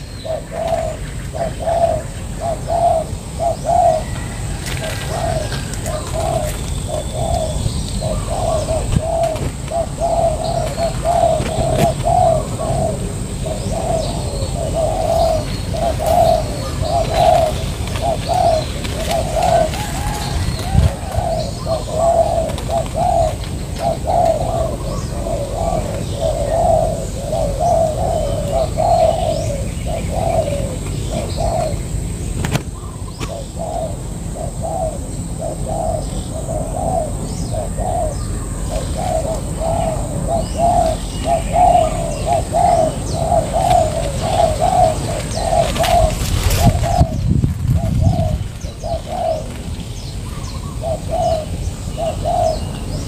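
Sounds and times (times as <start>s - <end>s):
doves cooing: 0.0s - 53.0s
small birds chirping: 0.0s - 53.0s.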